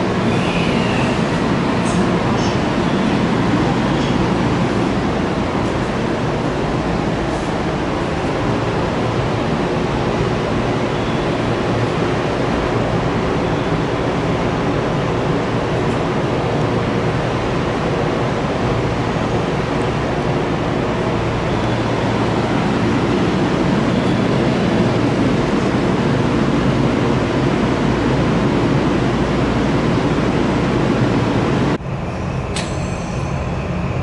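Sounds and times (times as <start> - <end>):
electric train running on track: 0.0 - 34.0.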